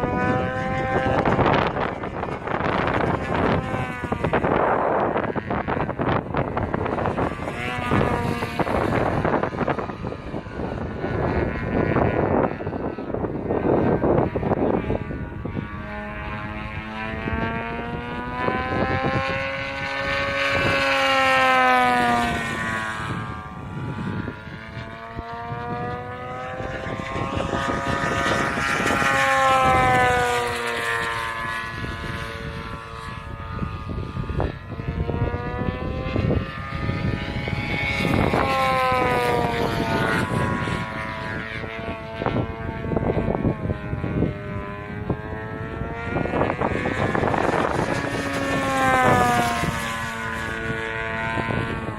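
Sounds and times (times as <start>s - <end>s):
model plane petrol engine: 0.0s - 51.9s.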